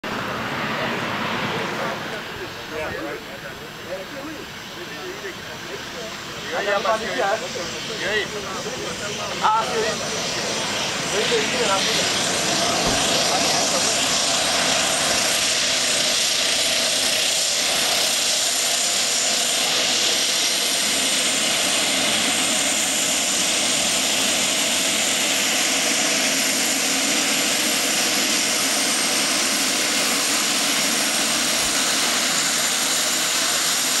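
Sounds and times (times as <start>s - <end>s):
propeller noise: 0.0s - 34.0s
turbine whine: 0.0s - 34.0s.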